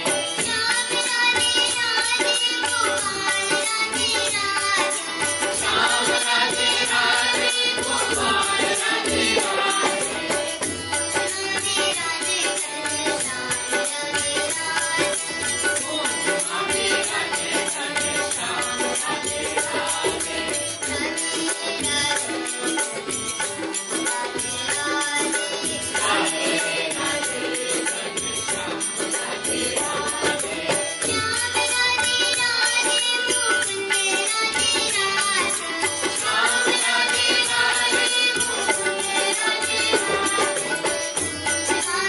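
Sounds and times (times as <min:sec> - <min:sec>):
harmonium: 0:00.0 - 0:42.0
people singing: 0:00.0 - 0:42.0
tabla and dholak drumming: 0:00.0 - 0:42.0.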